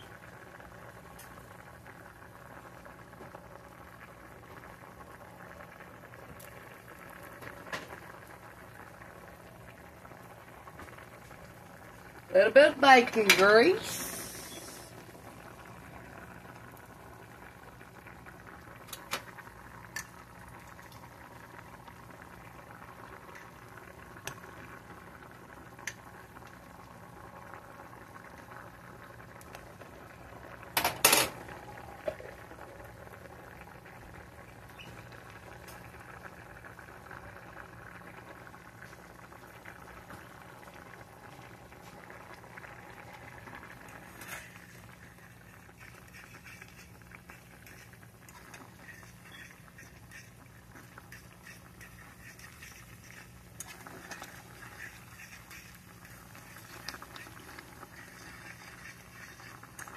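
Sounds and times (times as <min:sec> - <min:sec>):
water boiling in saucepan: 0:00.0 - 0:59.9.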